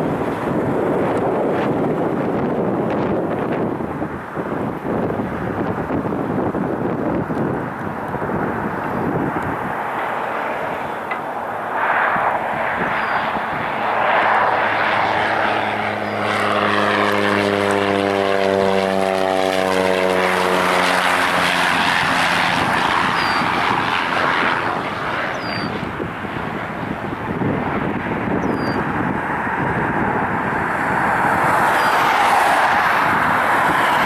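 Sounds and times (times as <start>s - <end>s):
turboprop plane passing: 0.0s - 34.0s.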